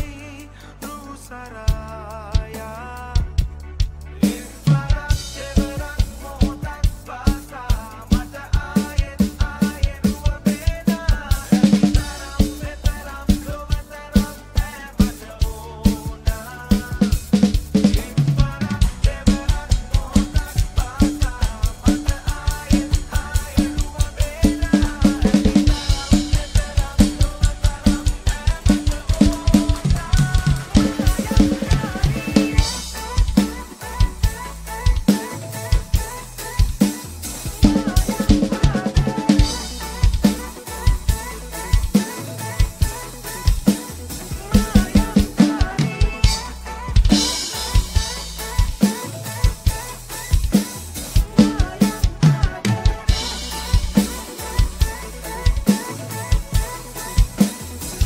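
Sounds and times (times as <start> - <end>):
drum kit beat: 0.0 - 58.0
pop backing track: 0.0 - 58.0.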